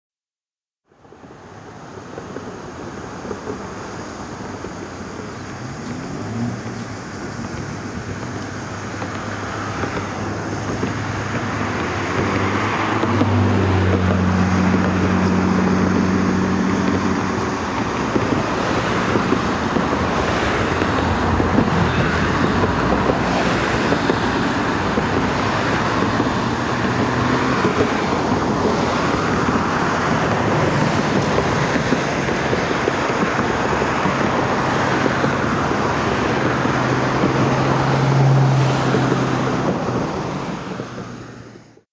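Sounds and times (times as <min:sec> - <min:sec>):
steady rushing noise: 0:00.9 - 0:41.8
wind on microphone: 0:01.2 - 0:41.6
vehicle engine passing: 0:05.0 - 0:41.6.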